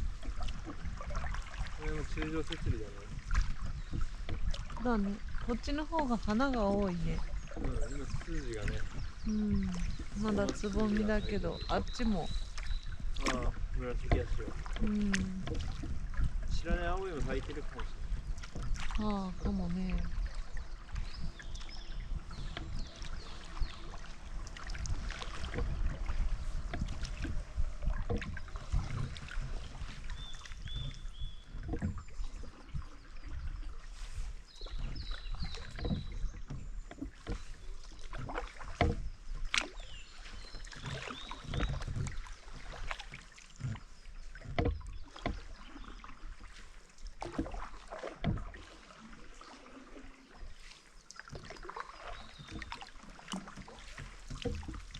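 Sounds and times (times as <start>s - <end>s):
paddle splashing in water: 0.0s - 54.9s.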